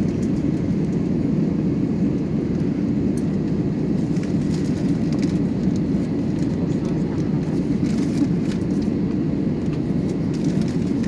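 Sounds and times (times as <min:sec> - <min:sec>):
aircraft cabin hum: 0:00.0 - 0:11.0
jet engine rumble: 0:00.0 - 0:11.0.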